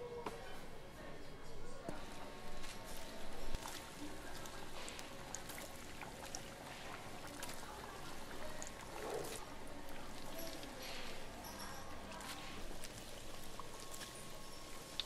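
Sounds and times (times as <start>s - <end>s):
doughnuts deep-frying in oil: 1.9s - 15.0s.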